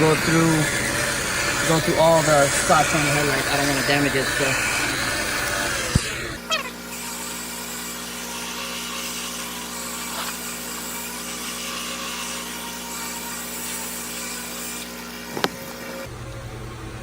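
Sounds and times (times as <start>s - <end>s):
electric buffing machine running: 0.0s - 17.0s.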